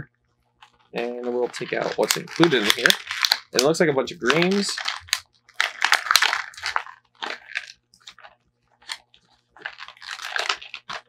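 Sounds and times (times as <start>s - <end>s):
plastic packaging crinkling: 0.5s - 11.0s.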